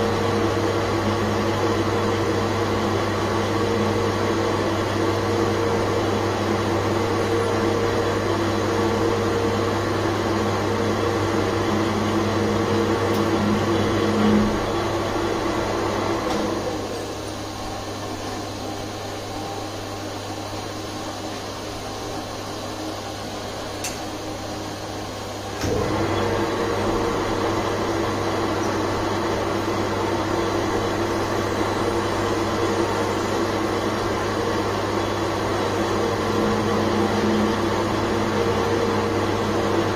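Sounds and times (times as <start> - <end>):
metal lathe motor hum: 0.0 - 39.9.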